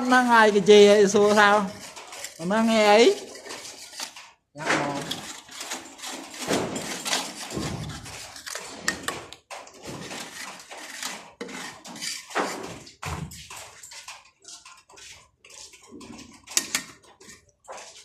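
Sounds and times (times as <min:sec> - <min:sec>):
hard objects clattering and scraping: 0:00.0 - 0:18.0.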